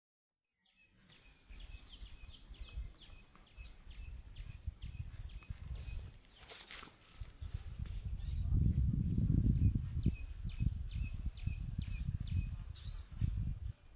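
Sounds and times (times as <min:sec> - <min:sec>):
bird chirping: 0:00.5 - 0:08.6, 0:09.6 - 0:13.9.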